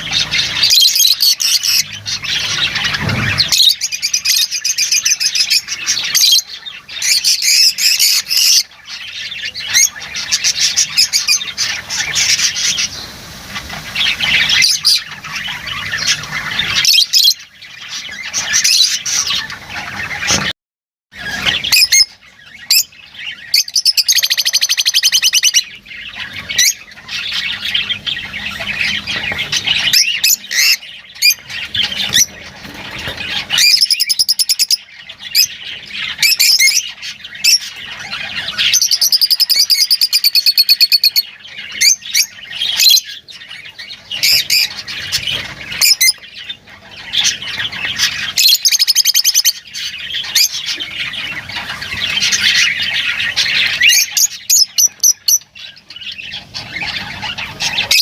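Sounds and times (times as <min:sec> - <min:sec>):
lovebirds chattering and squawking: 0:00.0 - 0:20.5, 0:21.1 - 0:58.0.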